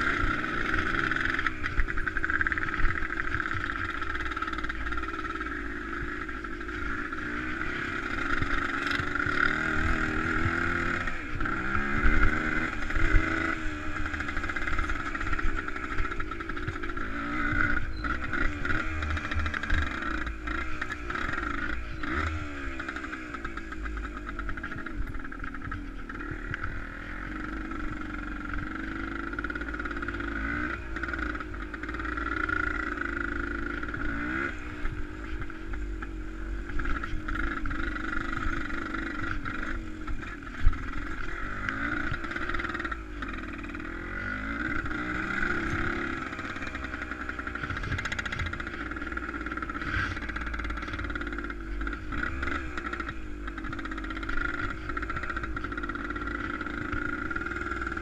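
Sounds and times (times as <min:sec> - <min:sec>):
steady noise: 0:00.0 - 0:58.0
vehicle engine revving: 0:00.0 - 0:58.0.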